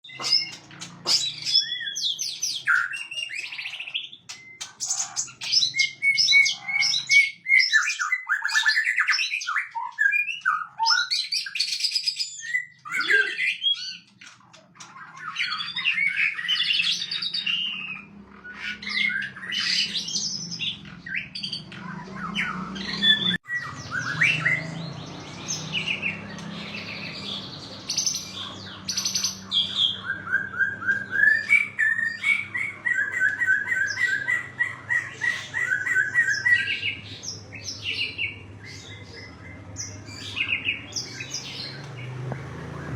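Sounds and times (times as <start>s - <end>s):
bird singing whistles and trills: 0.0s - 42.9s.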